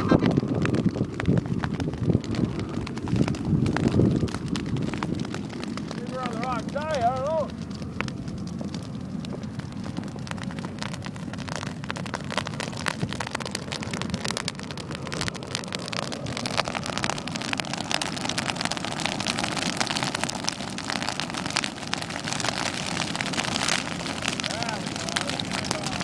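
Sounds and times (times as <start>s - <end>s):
burning grass crackling and popping: 0.0s - 26.0s
low rumble: 0.0s - 26.0s.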